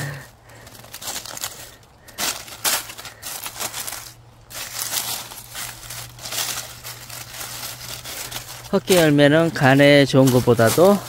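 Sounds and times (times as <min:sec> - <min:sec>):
dry leaves crunching and rustling: 0:00.1 - 0:11.0.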